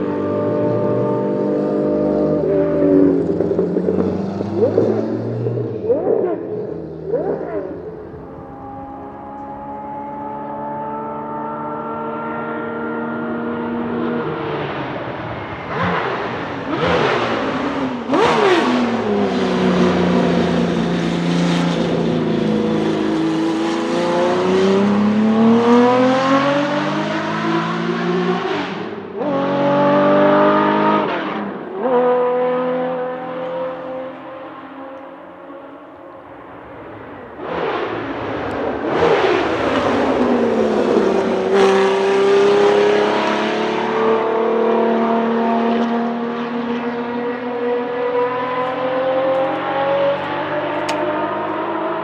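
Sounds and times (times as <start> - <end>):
racing car engine revving: 0.0 - 52.0.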